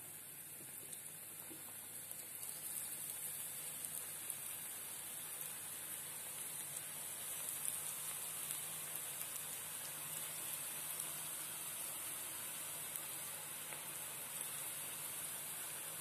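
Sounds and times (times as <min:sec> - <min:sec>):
oil sizzling and crackling: 0:00.0 - 0:16.0.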